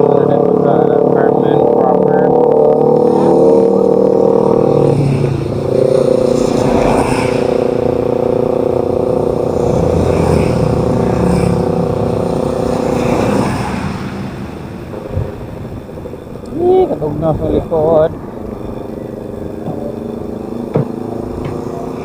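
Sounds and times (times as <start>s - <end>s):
low road rumble: 0.0s - 22.0s
vehicle engine running: 0.0s - 22.0s.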